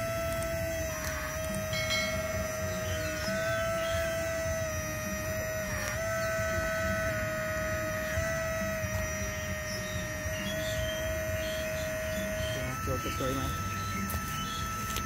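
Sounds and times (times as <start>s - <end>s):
hydraulic pump whining: 0.0s - 15.0s.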